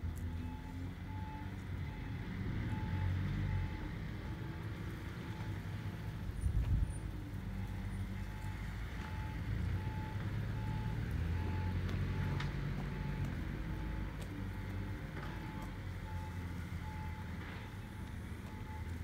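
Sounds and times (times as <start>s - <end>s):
vehicle engine running: 0.0s - 19.0s
reversing alarm beeps: 0.3s - 4.5s, 7.5s - 19.0s.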